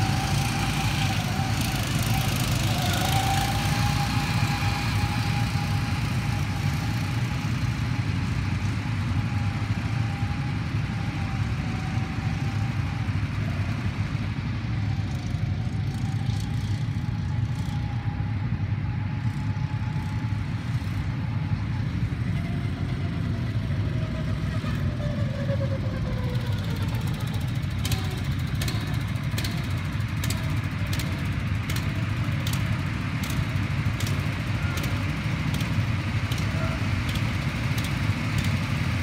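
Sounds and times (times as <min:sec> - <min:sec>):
go-kart engines droning: 0:00.0 - 0:39.0.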